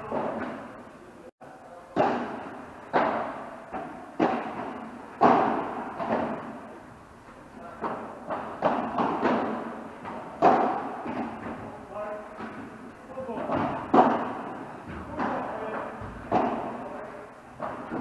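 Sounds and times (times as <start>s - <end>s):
rackets hitting padel ball: 0.0s - 0.8s, 1.9s - 18.0s
ball bouncing: 2.0s - 6.8s, 7.7s - 11.8s, 12.4s - 18.0s.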